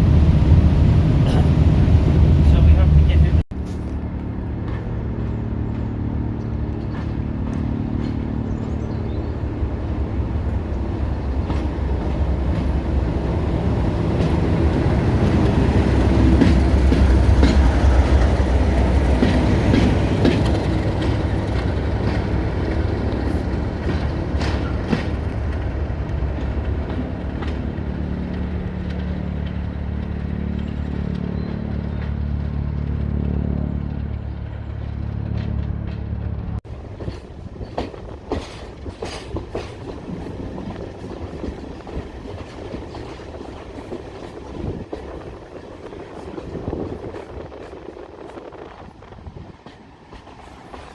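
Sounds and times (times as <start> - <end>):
diesel train engine drone: 0.0 - 50.9
train wheels clicking over rail joints: 3.6 - 9.4, 10.4 - 32.9, 34.0 - 50.9.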